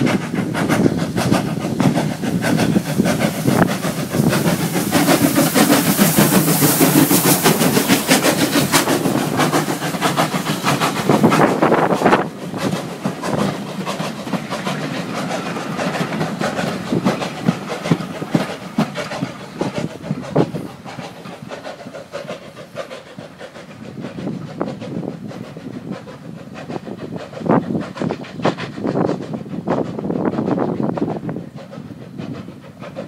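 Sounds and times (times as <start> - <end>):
train wheels clattering over rail joints: 0.0 - 33.0.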